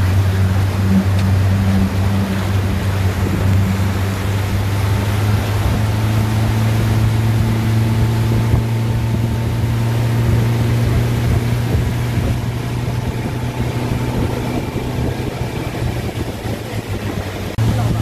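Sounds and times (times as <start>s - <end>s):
boat wake rushing: 0.0s - 18.0s
outboard motor droning: 0.0s - 18.0s
wind: 0.0s - 18.0s.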